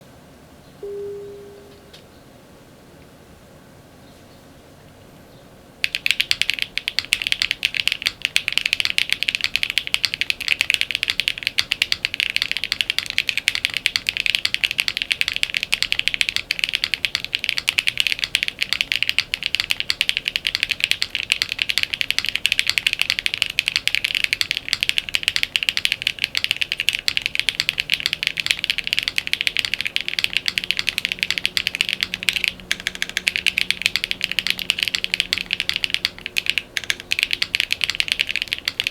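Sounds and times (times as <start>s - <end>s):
mechanical keyboard typing: 5.8s - 38.9s.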